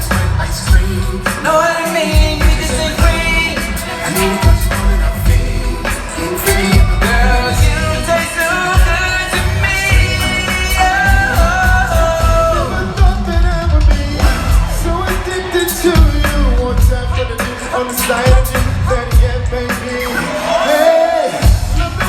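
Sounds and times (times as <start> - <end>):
backing band with heavy bass: 0.0 - 22.0
singer holding long notes: 0.2 - 22.0.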